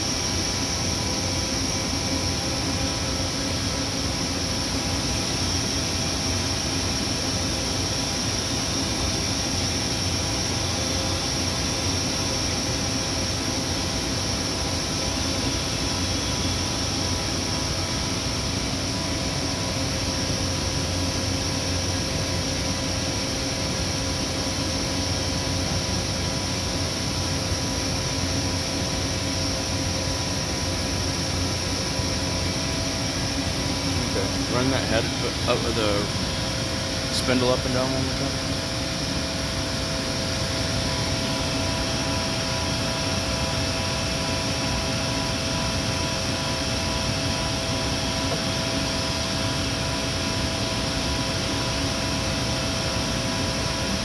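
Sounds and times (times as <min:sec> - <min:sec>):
boring mill hum and whine: 0:00.0 - 0:54.0.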